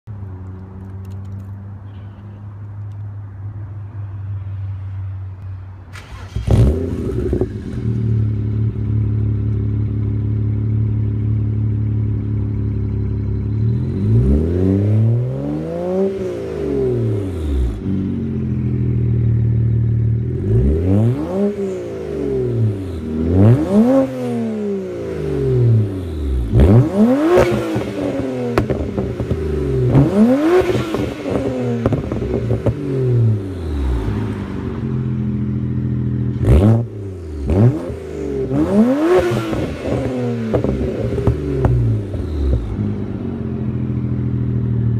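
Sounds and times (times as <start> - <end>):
car engine starting and idling: 5.8 - 44.9
car engine revving: 5.9 - 44.9.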